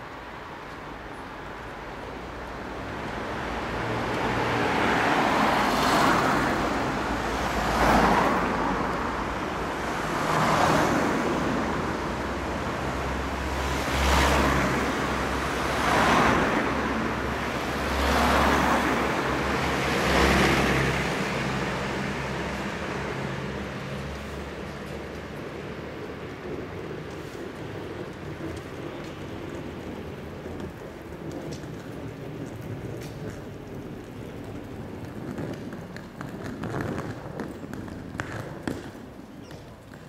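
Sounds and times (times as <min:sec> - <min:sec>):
cars passing: 0:00.0 - 0:40.0.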